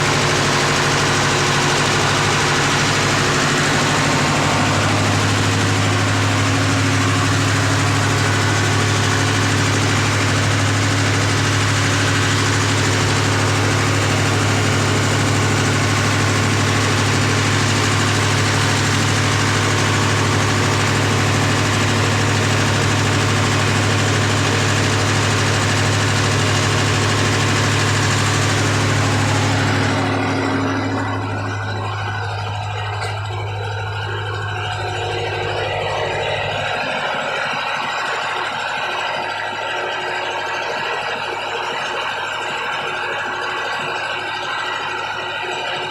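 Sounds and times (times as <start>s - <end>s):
diesel generator running: 0.0s - 45.9s.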